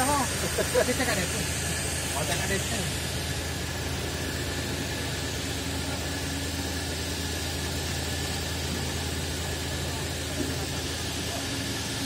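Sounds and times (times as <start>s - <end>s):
diesel generator humming: 0.0s - 12.0s.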